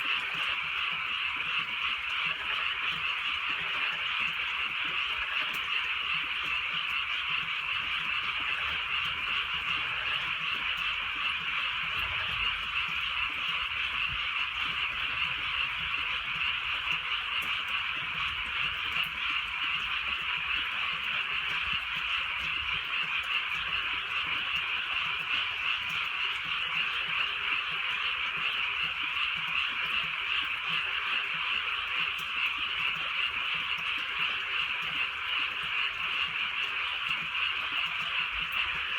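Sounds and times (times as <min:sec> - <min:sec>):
chorus of frogs calling: 0:00.0 - 0:38.9.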